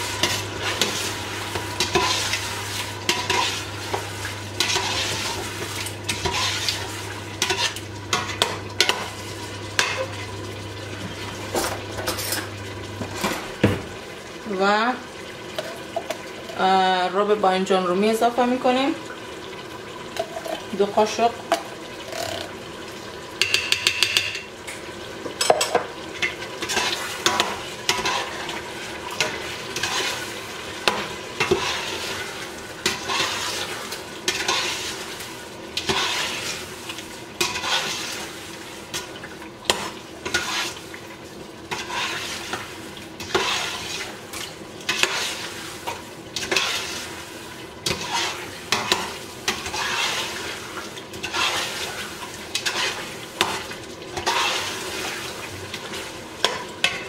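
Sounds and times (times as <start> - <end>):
food sizzling: 0.0 - 57.0.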